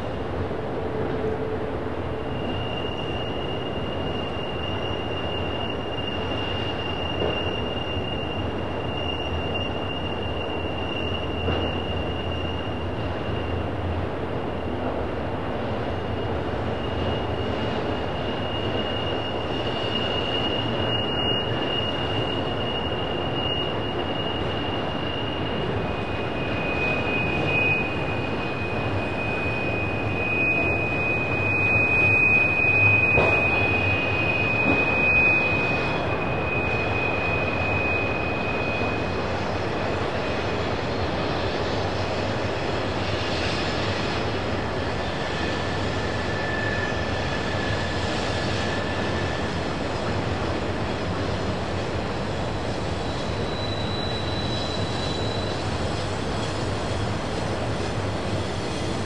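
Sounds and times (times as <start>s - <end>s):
train cars rumbling: 0.0s - 59.0s
train wheels squealing: 0.0s - 59.0s.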